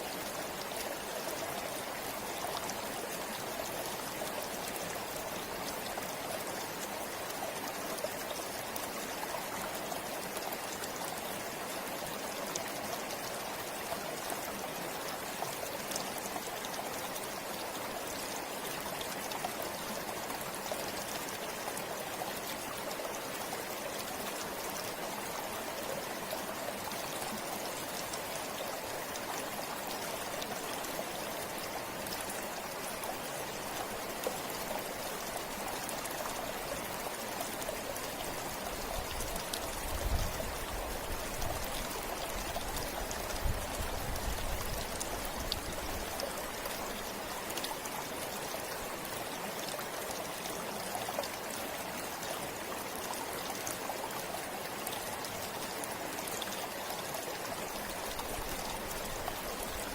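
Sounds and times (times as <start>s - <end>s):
river flowing: 0.0s - 59.9s
water drips and splashes: 0.0s - 59.9s.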